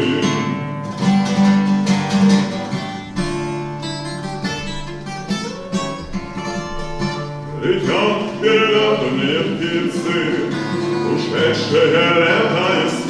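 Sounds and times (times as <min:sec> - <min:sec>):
acoustic guitar strumming and plucking: 0:00.0 - 0:13.0.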